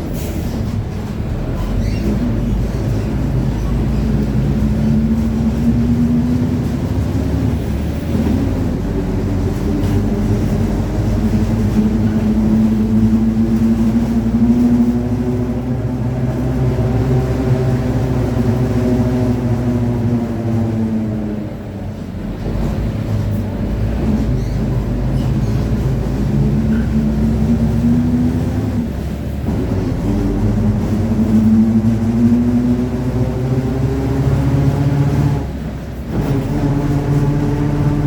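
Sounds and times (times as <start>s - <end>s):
bus differential howling: 0.0s - 38.0s
engine and road rumble: 0.0s - 38.0s.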